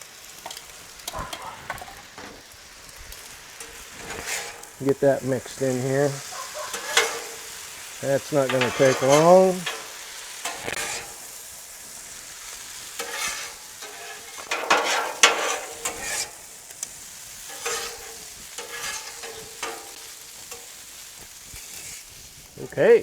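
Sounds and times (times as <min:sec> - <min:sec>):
rice sizzling on a griddle: 0:00.0 - 0:23.0
spatula scraping on steel: 0:00.4 - 0:02.4, 0:03.5 - 0:22.1.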